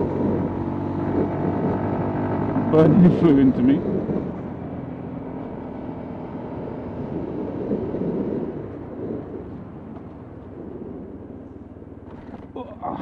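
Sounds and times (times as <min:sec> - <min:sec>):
wind noise: 0:00.0 - 0:12.6
motorcycle engine rumble: 0:00.0 - 0:13.0.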